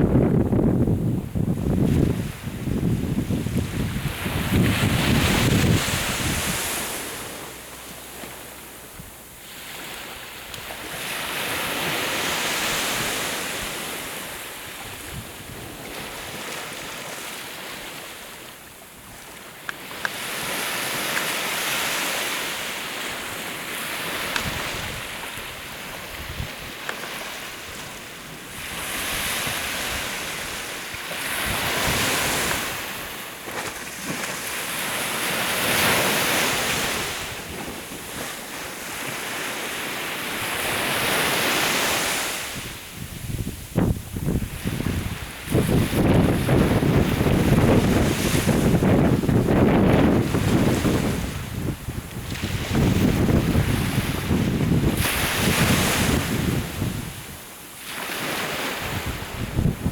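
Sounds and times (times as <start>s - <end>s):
sea waves washing ashore: 0.0s - 59.9s.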